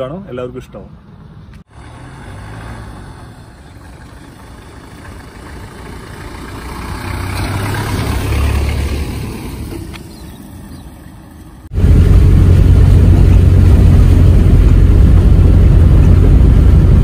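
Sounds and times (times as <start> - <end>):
road noise: 0.0 - 17.0
car engine rumble: 0.8 - 17.0.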